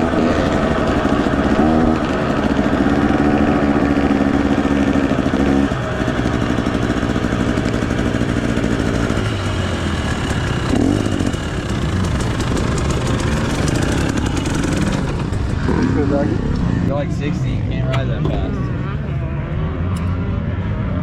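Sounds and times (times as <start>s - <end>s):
dirt bike engine idling unevenly: 0.0s - 20.2s.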